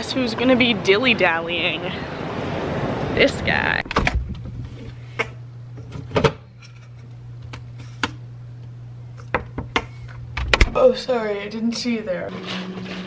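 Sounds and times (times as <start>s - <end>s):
refrigerator hum: 2.2s - 13.0s.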